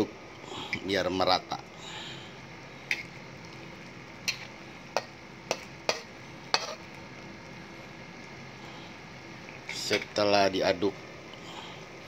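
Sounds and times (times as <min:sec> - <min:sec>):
stew simmering: 0:00.0 - 0:12.0.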